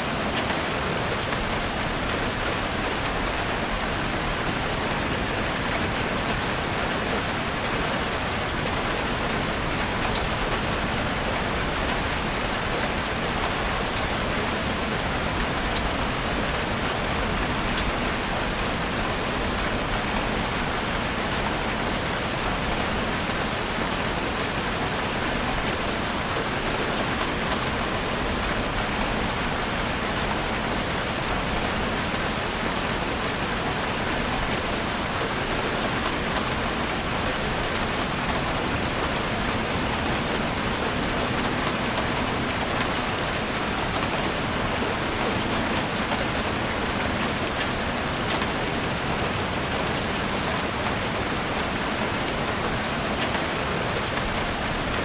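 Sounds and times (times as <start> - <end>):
heavy rain drumming on a roof: 0.0 - 55.0.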